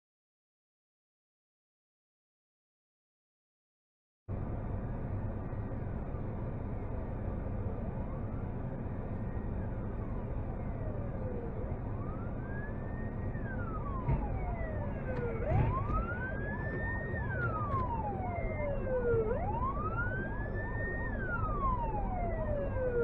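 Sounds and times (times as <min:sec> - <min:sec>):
traffic and engine noise: 0:04.3 - 0:23.0
fire engine sirens wailing: 0:04.4 - 0:23.0.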